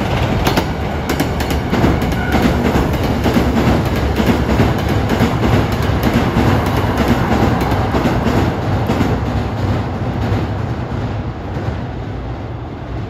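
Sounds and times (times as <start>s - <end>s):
train wheels clacking over rail joints: 0.0s - 11.8s.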